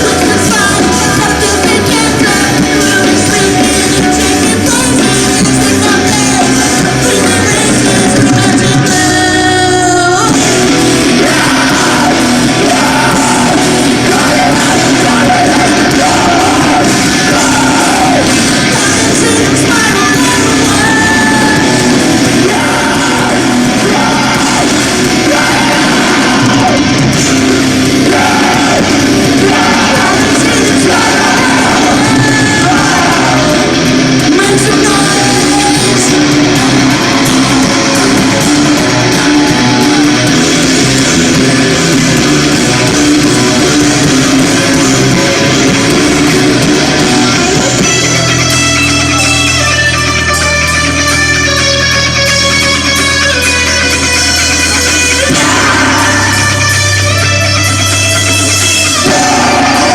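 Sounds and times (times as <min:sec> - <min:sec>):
person singing and shouting: 0:00.0 - 0:42.0, 0:53.0 - 0:59.9
bass guitar: 0:00.0 - 0:59.9
distorted electric guitars: 0:00.0 - 0:59.9
drums: 0:00.0 - 0:59.9.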